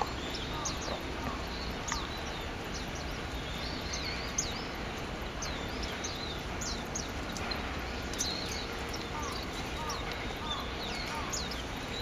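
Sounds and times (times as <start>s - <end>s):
low background noise: 0.0s - 12.0s
songbirds chirping: 0.0s - 12.0s.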